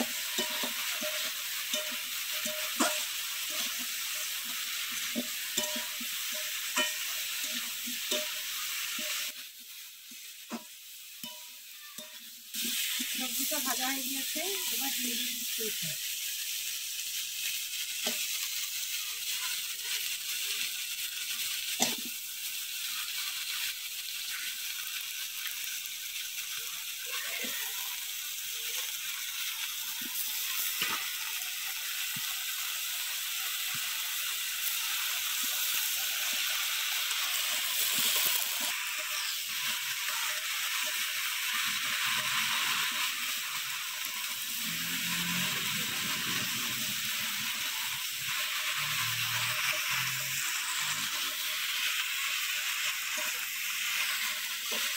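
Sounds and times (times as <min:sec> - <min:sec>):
vegetables sizzling in a pan: 0:00.0 - 0:54.9.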